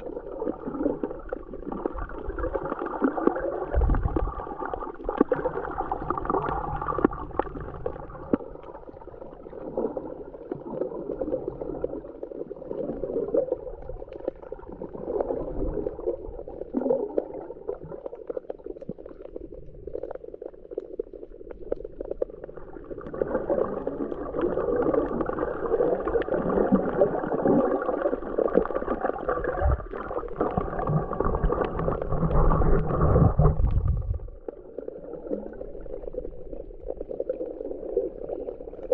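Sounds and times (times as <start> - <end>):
muffled underwater sloshing: 0.0 - 38.9
small underwater clicks: 0.2 - 38.9.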